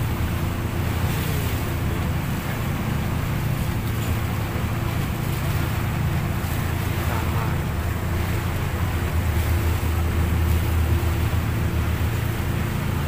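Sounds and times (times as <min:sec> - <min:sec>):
speedboat engine drone: 0:00.0 - 0:13.0.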